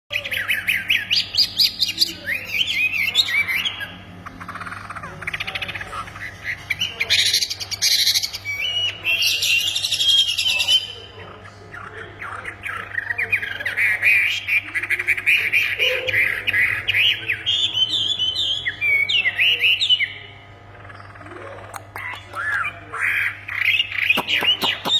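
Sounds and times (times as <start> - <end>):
songbird singing: 0.1 - 24.9.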